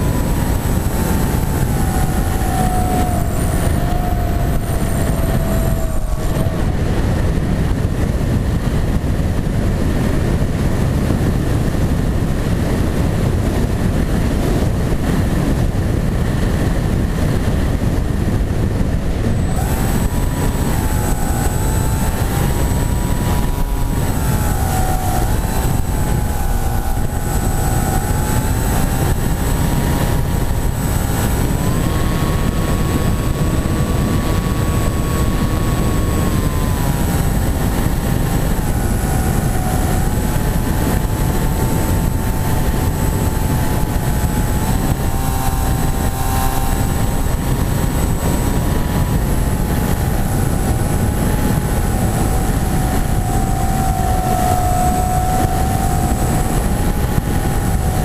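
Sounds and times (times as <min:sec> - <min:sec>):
model airplane propeller whine: 0:00.0 - 0:58.0
wind rushing over microphone: 0:00.0 - 0:58.0.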